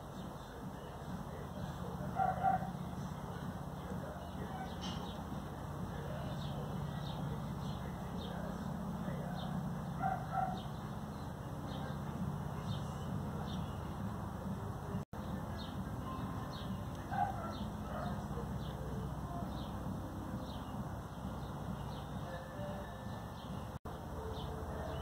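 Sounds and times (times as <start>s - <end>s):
low outdoor hum: 0.0s - 25.0s.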